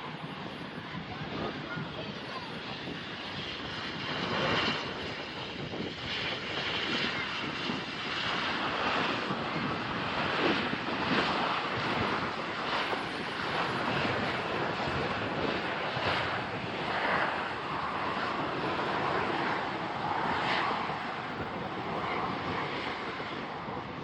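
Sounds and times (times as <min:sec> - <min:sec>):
airliner engines rushing: 0:00.0 - 0:24.0.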